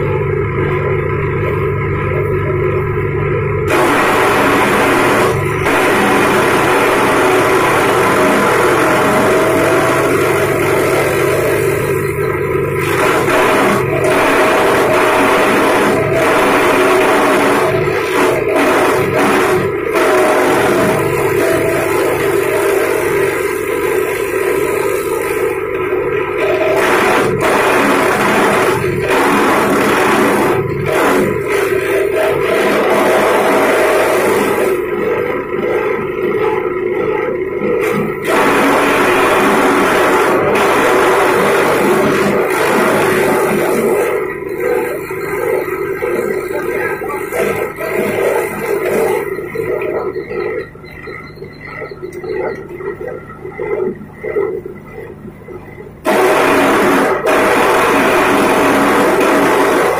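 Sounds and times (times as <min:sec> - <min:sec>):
grass chopper motor running: 0:00.0 - 0:36.6, 0:37.7 - 0:49.7.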